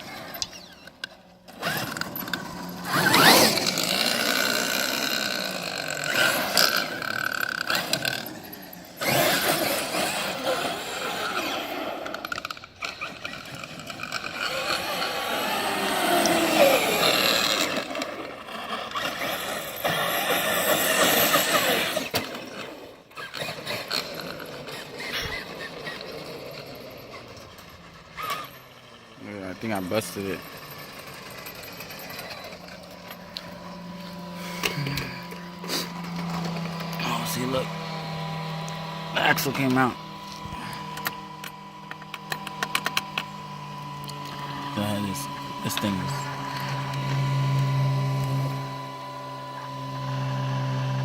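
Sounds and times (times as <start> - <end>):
drivetrain and tyres noise: 0.0 - 51.0
rc truck motor whine: 0.0 - 51.0.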